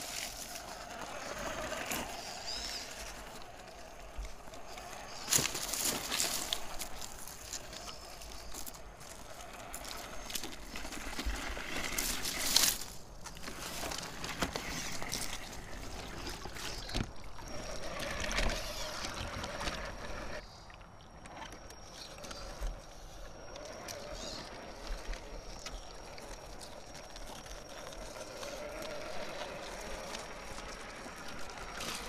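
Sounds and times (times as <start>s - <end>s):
tyres scraping on rock: 0.0s - 20.4s, 21.1s - 32.0s
toy truck drivetrain whirring: 0.0s - 20.5s, 21.1s - 32.0s.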